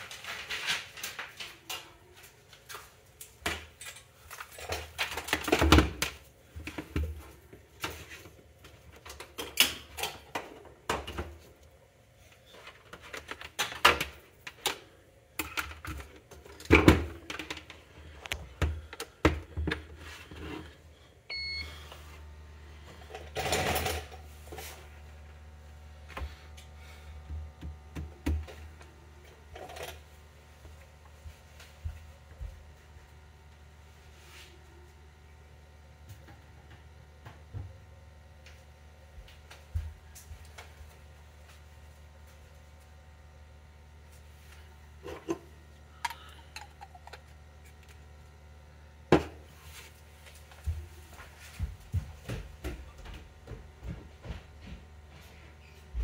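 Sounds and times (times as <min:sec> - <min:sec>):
steady low hum: 0:01.9 - 0:56.0.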